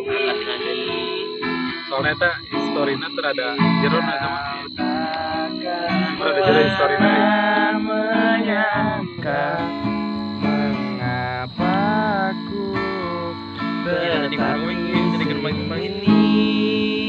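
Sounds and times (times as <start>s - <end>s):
man singing: 0.0s - 1.2s, 1.9s - 17.0s
acoustic guitar strumming: 0.0s - 17.0s.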